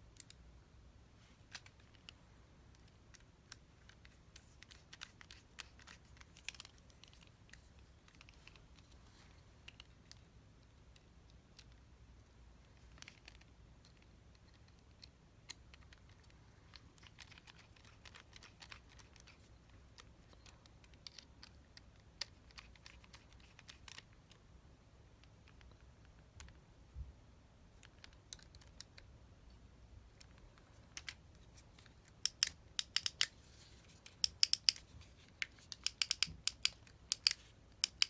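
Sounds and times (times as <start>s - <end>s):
light clicks of small parts: 0.1s - 0.4s, 1.2s - 26.6s, 27.7s - 38.0s.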